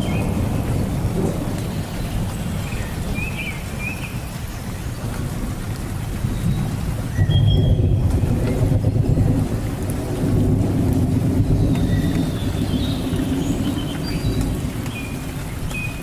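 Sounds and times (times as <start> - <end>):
rain falling in forest: 0.0 - 16.0.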